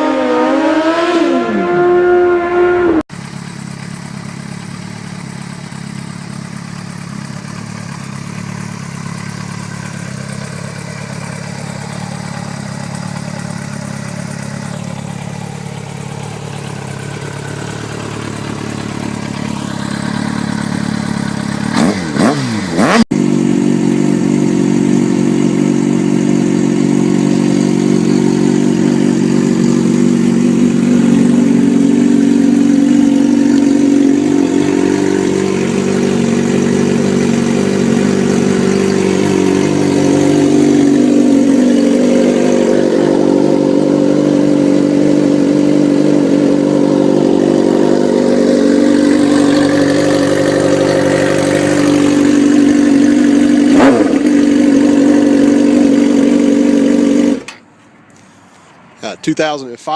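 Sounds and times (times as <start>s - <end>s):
motorcycle engine revving: 0.0s - 57.7s
motorcycle engine running: 0.0s - 57.8s.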